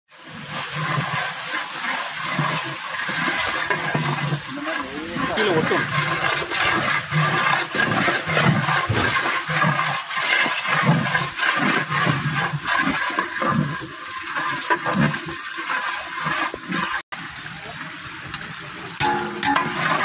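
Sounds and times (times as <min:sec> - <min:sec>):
pot steaming hiss: 0:00.1 - 0:20.0.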